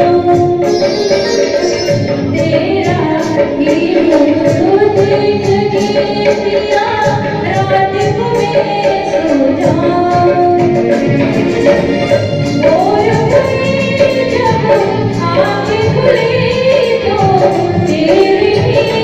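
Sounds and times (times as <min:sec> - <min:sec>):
guitar: 0:00.0 - 0:19.0
keyboard: 0:00.0 - 0:19.0
percussion beat: 0:00.0 - 0:19.0
woman singing into microphone: 0:00.0 - 0:19.0.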